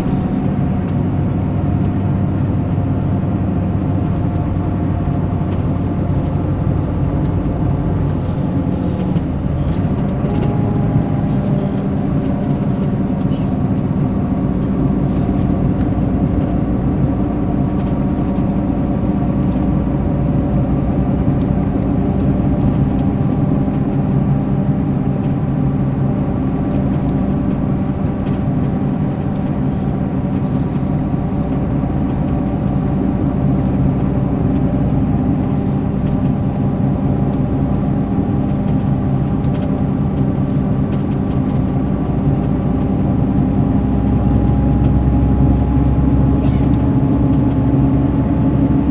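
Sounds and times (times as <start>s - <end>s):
diesel coach engine running: 0.0s - 48.9s.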